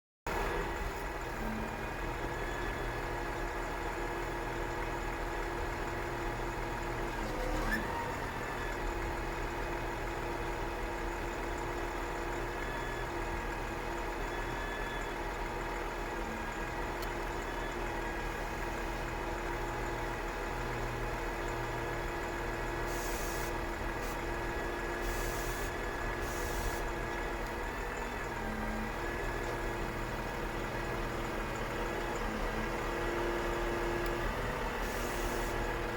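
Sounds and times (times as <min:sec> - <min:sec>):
diesel truck idling: 0:00.3 - 0:35.9.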